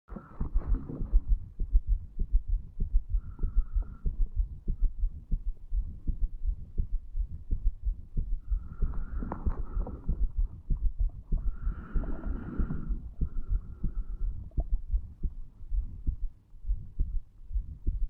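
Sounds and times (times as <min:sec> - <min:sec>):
heartbeat thumps: 0:00.1 - 0:18.0.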